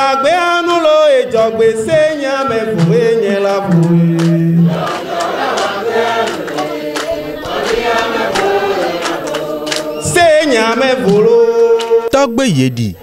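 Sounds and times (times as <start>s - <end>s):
several voices chant-like singing: 0.0s - 12.2s.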